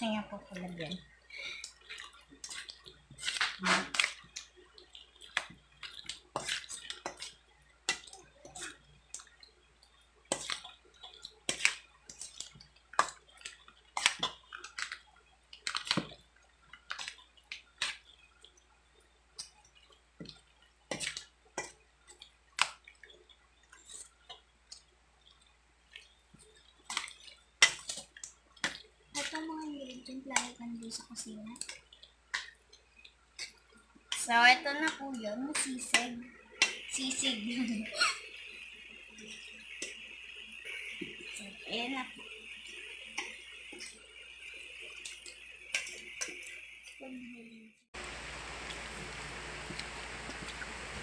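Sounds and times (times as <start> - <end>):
wet squelches of mixing: 0.0 - 51.0.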